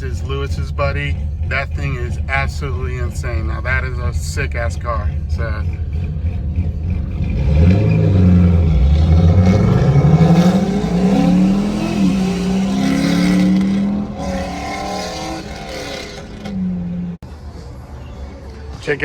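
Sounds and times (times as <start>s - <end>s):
car engine accelerating: 0.0s - 17.2s.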